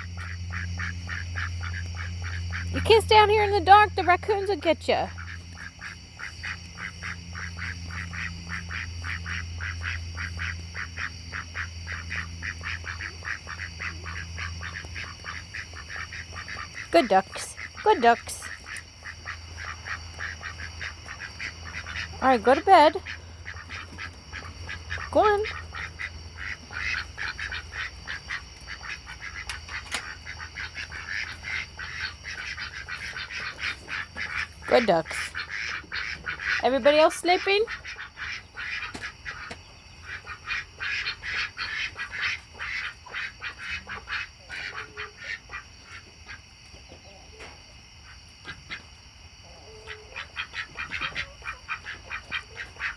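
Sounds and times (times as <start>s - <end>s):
ducks quacking: 0.0s - 52.9s.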